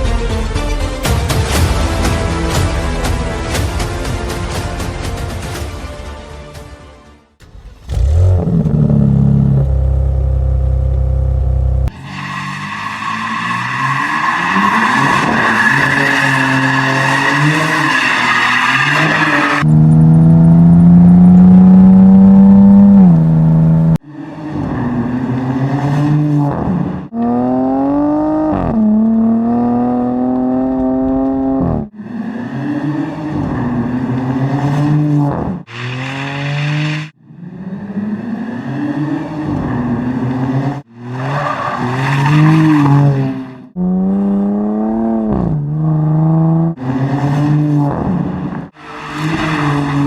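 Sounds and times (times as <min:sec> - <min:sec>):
car engine revving: 0:07.4 - 0:50.0.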